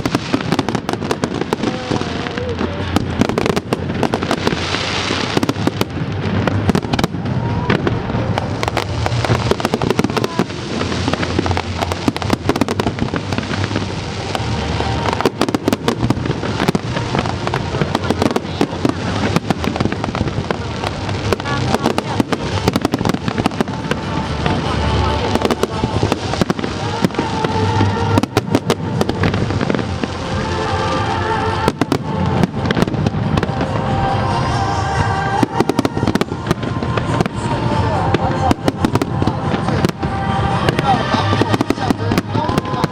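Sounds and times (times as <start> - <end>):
fireworks bangs and crackles: 0.0 - 42.9
low rumble of explosions: 0.0 - 42.9.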